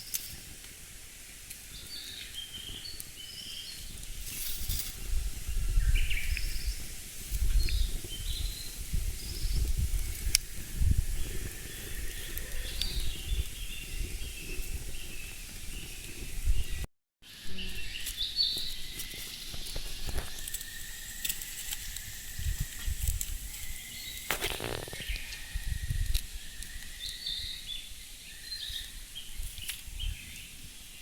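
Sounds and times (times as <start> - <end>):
small birds chirping: 1.3 - 31.0
wind rumble on microphone: 1.6 - 16.9, 17.8 - 31.0.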